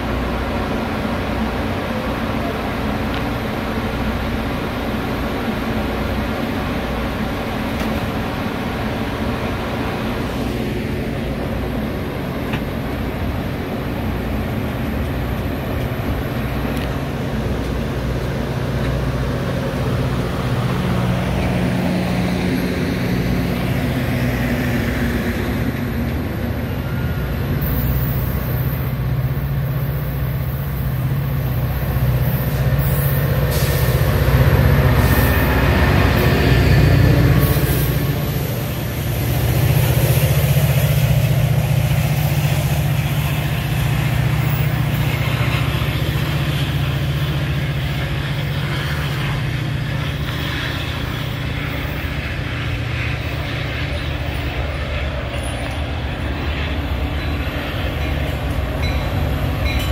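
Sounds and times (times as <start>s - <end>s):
diesel locomotive engine: 0.0s - 59.9s
train wheels rolling on rails: 0.0s - 59.9s.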